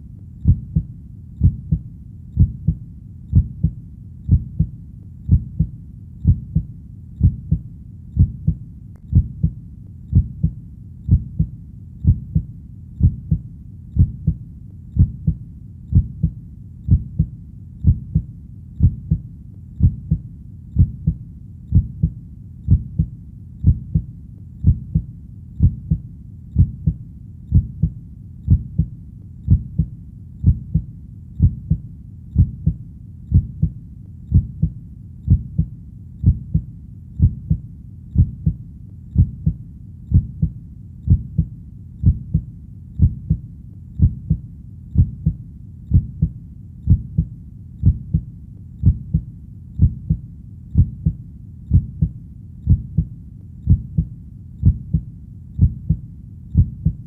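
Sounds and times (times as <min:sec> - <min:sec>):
heartbeat lub-dub: 0:00.0 - 0:57.0.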